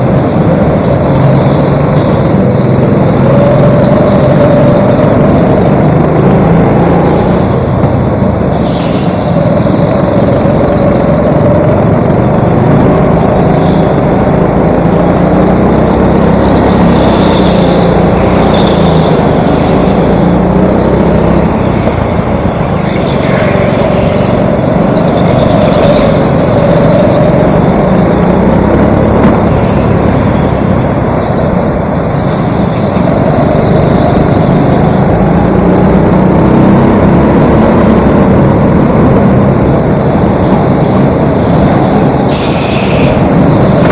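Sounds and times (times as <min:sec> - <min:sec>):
go-kart engine running hard: 0:00.0 - 0:43.9.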